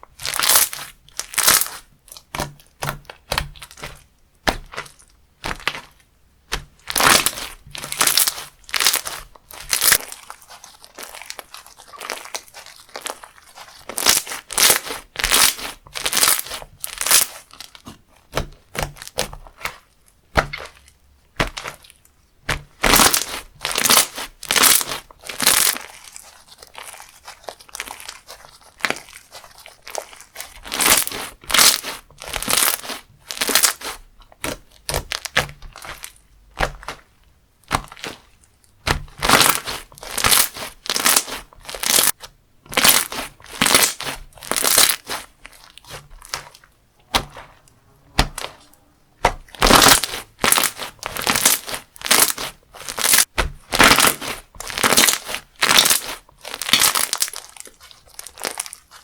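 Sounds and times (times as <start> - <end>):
crunchy slime being squeezed: 0.0 - 59.0.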